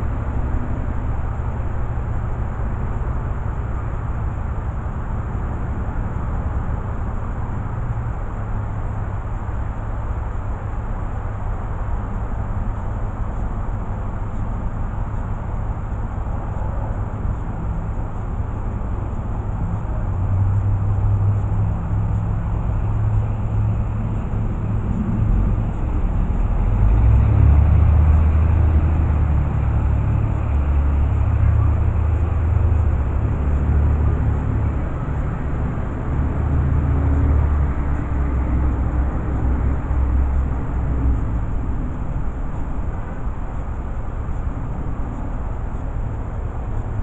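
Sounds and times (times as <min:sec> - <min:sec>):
faint high whine: 0:00.0 - 0:47.0
low engine rumble: 0:00.0 - 0:47.0.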